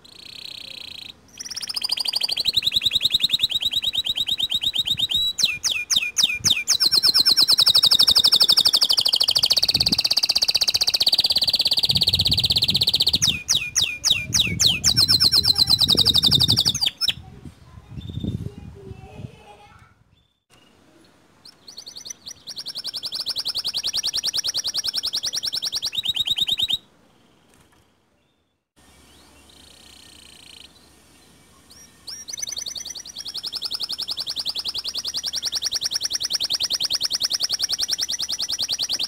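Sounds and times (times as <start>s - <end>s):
canary singing trills: 0.0s - 18.4s, 20.1s - 27.6s, 28.2s - 39.0s.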